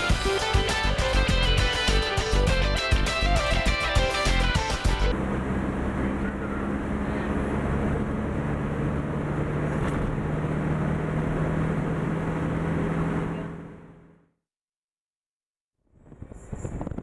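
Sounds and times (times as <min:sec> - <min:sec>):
road noise: 0:00.0 - 0:14.3
vehicle engine hum: 0:00.0 - 0:14.4.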